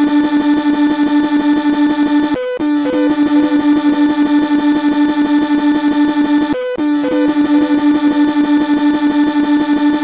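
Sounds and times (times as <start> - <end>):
held note with fast pulse: 0.0 - 10.0.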